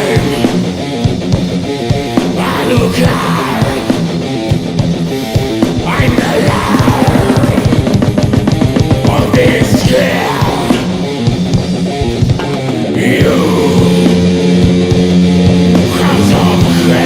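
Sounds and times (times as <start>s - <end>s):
distorted electric guitars: 0.0s - 17.0s
fast drumming: 0.0s - 17.0s.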